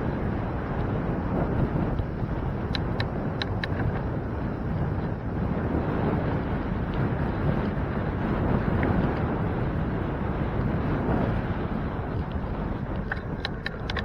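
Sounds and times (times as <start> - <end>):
steady low rumble: 0.0 - 14.0
wind rushing over microphone: 0.0 - 14.0.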